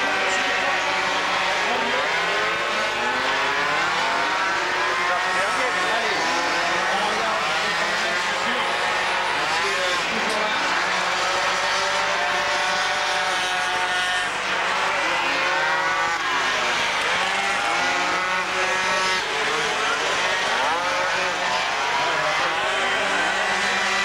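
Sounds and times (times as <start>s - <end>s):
scooters racing past: 0.0s - 24.0s.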